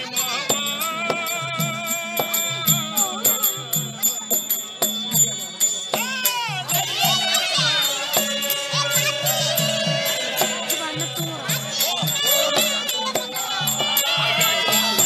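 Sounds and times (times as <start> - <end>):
drum rhythm: 0.0 - 15.0
jingling bells: 0.0 - 15.0.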